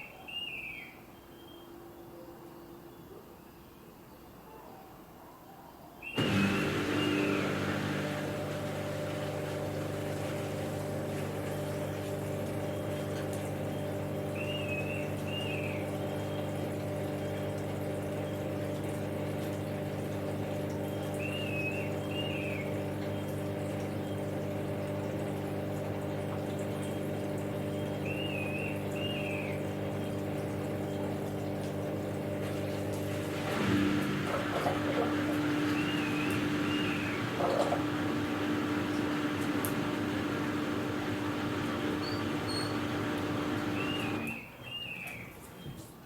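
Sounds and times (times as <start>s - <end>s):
washing machine hum: 6.0s - 46.0s.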